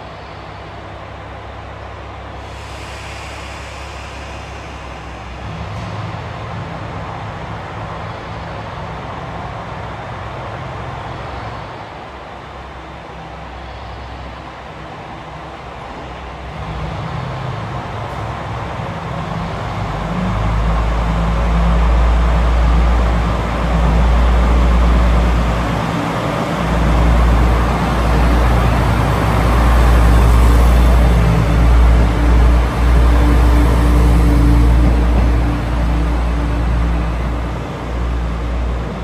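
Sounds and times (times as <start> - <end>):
diesel railcar engine: 0.0 - 39.0.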